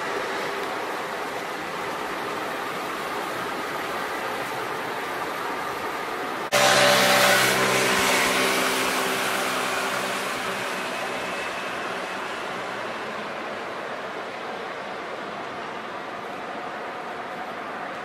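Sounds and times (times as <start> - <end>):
street traffic noise: 0.0 - 18.0
vehicle engine hum: 0.0 - 18.0.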